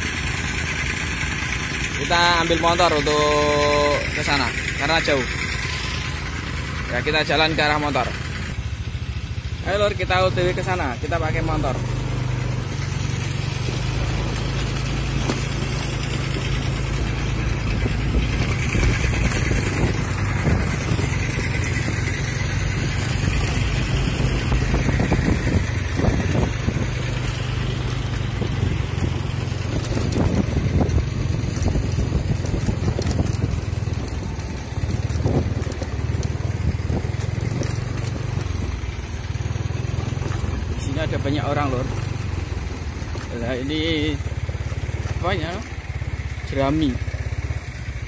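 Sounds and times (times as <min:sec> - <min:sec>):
small motorcycle engine running: 0:00.0 - 0:48.0.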